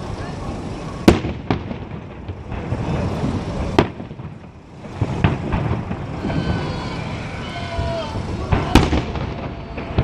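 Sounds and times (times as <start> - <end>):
firework rumble and crackle: 0.0 - 10.0
firework shells bursting: 1.0 - 10.0.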